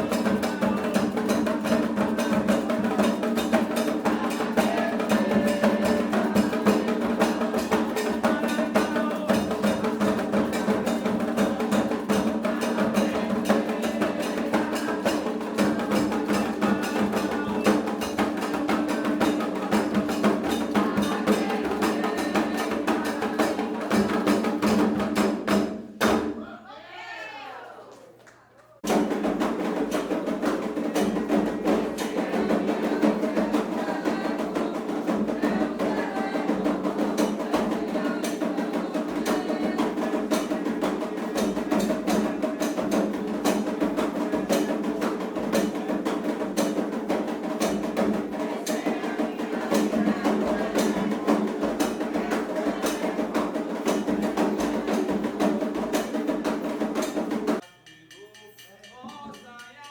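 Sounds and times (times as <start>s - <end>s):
hand drums in fast rhythm: 0.0s - 26.4s, 28.8s - 59.9s.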